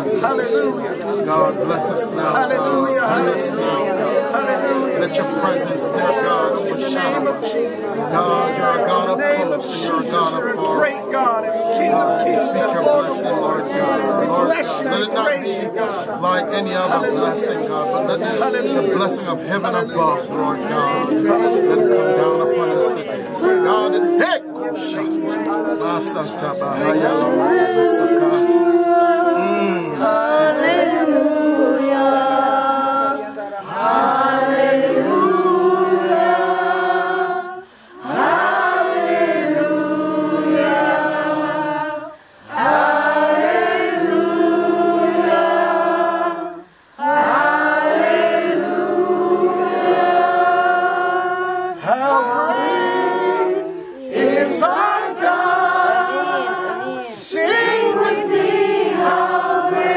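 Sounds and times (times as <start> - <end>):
group singing unaccompanied: 0.0 - 59.9.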